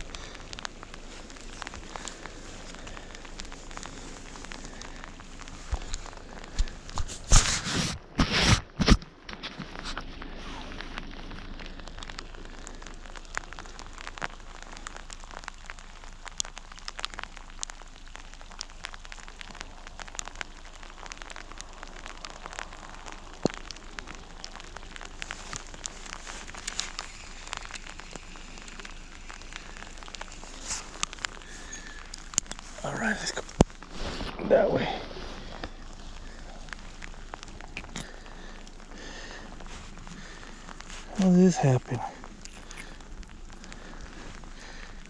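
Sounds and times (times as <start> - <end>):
raindrops ticking: 0.0 - 45.0
steady rain hiss: 0.0 - 45.0.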